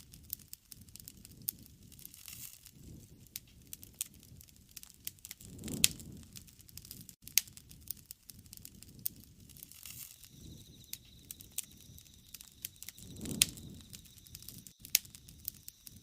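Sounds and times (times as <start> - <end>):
low rumble of flame: 0.0 - 16.0
wood fire crackling: 0.0 - 16.0.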